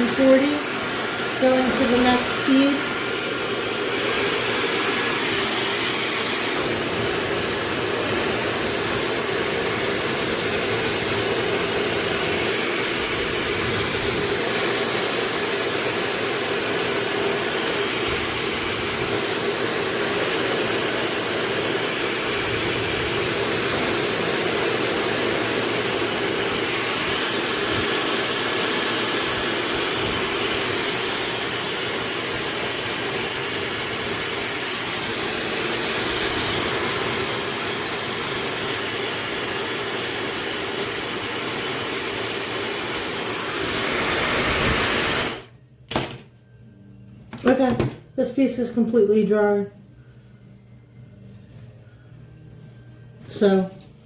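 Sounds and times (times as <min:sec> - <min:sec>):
hair dryer running: 0:00.0 - 0:46.3.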